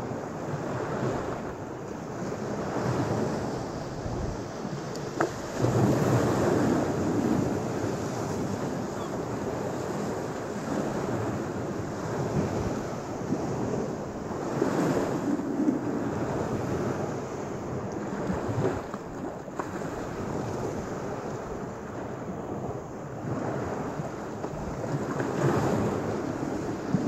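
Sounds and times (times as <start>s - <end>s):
small waves washing onto sand: 0.0s - 27.0s
wind buffeting microphone: 0.0s - 27.0s.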